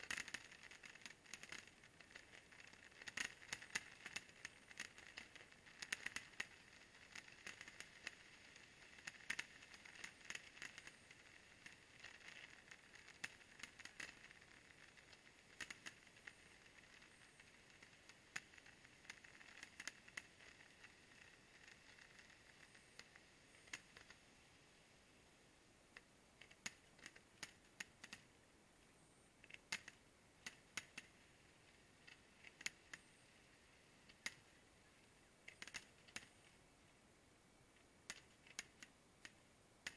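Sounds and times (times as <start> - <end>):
fireworks popping and crackling: 0.0 - 25.3, 26.0 - 28.4, 29.4 - 36.6, 38.0 - 39.9
low steady hiss: 0.0 - 39.9.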